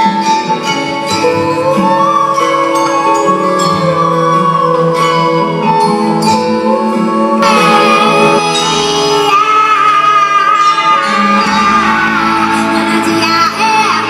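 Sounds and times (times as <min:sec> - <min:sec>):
live gamelan fusion band music: 0:00.0 - 0:14.0.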